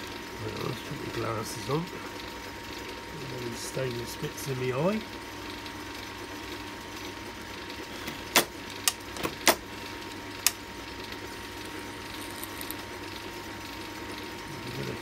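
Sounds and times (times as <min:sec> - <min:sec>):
faint machine whine: 0:00.0 - 0:15.0
lathe running with hum: 0:00.0 - 0:15.0.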